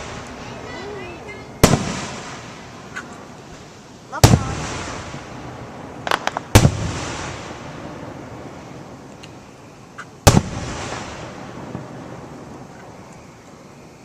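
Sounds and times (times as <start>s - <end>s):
fireworks booms with echoing rumble: 0.0s - 9.5s, 10.2s - 13.0s
fireworks crackling pops: 0.0s - 13.7s.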